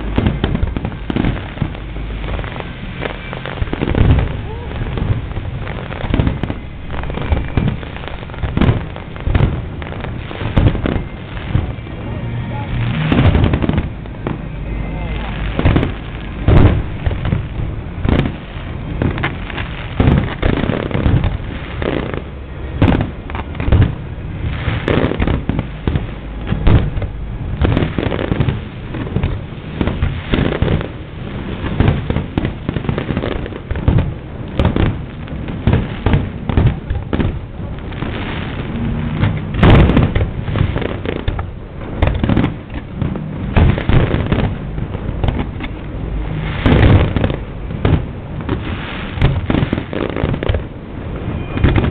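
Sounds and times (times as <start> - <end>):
fireworks bangs and booms: 0.0 - 51.9.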